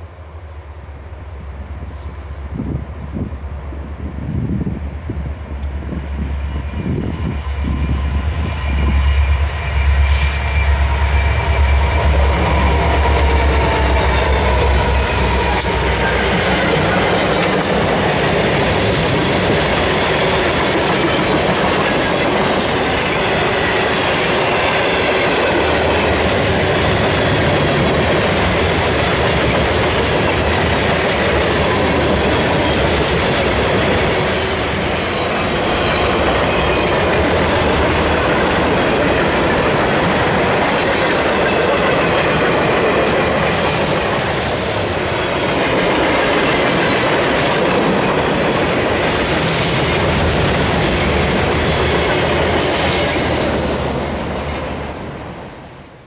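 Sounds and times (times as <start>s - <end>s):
locomotive engines rumbling: 0.0s - 55.8s
train wheels on rails: 0.0s - 56.0s.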